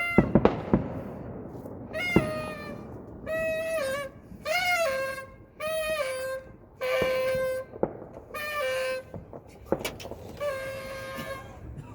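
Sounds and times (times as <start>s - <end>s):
firework cracks: 0.0s - 11.8s.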